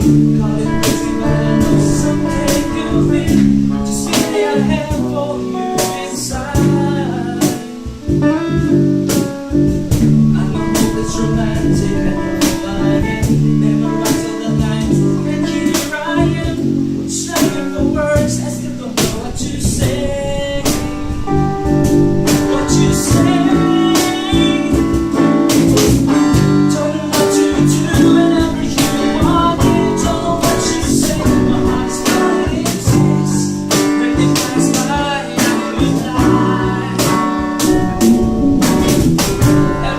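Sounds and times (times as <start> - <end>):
drums: 0.0 - 39.9
electric guitar: 0.0 - 39.9
person singing: 0.0 - 39.9.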